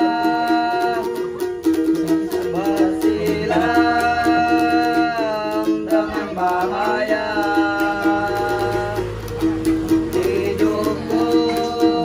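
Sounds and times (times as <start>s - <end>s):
man singing: 0.0s - 1.5s, 2.1s - 9.3s, 9.9s - 12.0s
ukulele strumming: 0.0s - 12.0s.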